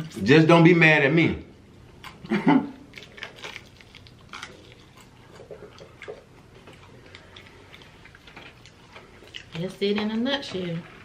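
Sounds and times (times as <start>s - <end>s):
chewing mouth sounds: 2.0s - 11.0s.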